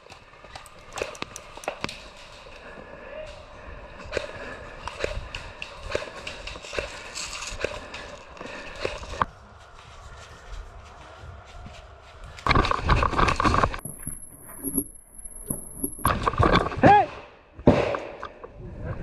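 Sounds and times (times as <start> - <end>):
footsteps: 0.0 - 16.8.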